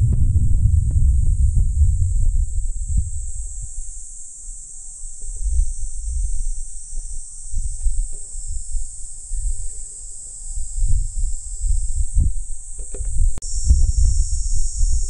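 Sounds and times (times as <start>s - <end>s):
insects droning: 0.0s - 15.0s
wind buffeting microphone: 0.0s - 15.0s.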